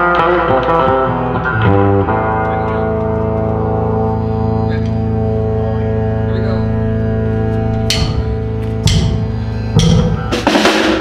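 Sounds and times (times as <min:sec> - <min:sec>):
sustained droning chord: 0:00.0 - 0:10.6
live band music: 0:00.0 - 0:11.0.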